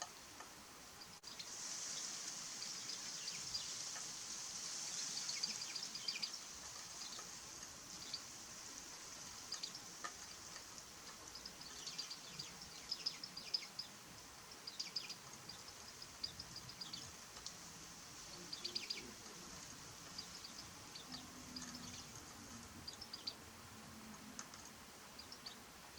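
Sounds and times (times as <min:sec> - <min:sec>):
songbird chirping: 0:00.0 - 0:25.9.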